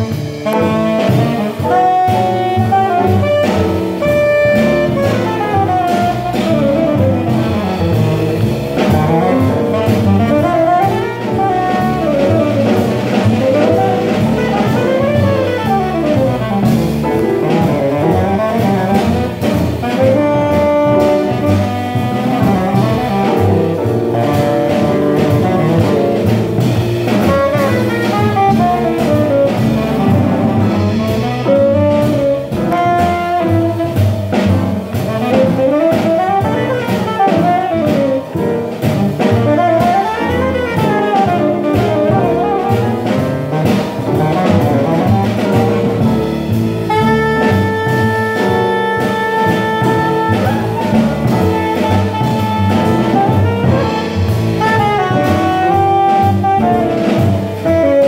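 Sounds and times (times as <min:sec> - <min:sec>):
bass: 0:00.0 - 0:58.0
drums: 0:00.0 - 0:58.0
saxophone solo: 0:00.4 - 0:58.0.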